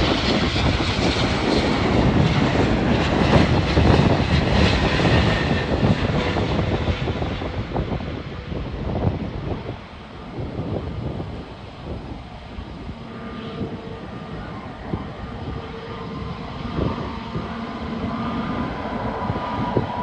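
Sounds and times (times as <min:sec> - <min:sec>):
jet engines whining and roaring: 0:00.0 - 0:20.0
wind buffeting microphone: 0:00.0 - 0:20.0.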